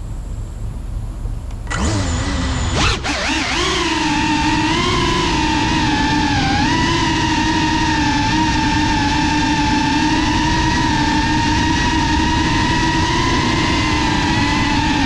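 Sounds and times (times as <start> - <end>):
drone motors whining: 1.6 - 15.0.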